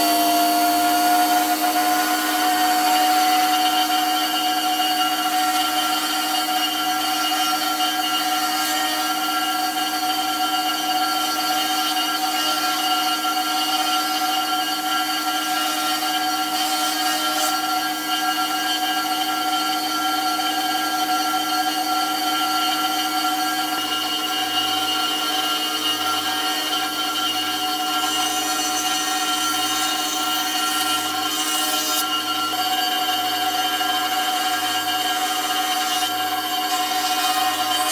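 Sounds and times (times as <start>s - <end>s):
router bit cutting timber hiss: 0.0s - 37.9s
router table high whine: 0.0s - 37.9s.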